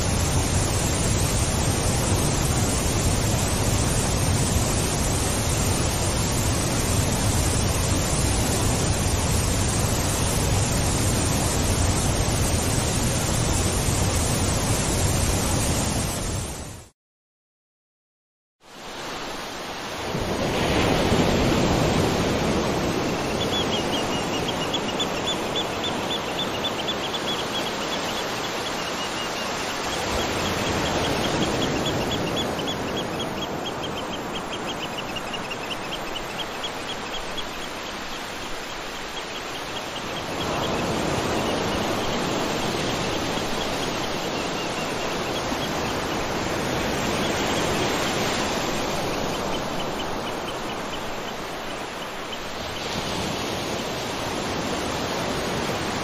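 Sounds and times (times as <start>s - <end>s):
waterfall rushing: 0.0s - 16.6s, 18.8s - 56.0s.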